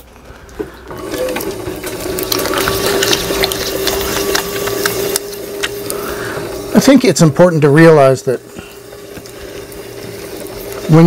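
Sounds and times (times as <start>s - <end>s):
potter's wheel motor whine: 0.6s - 11.0s.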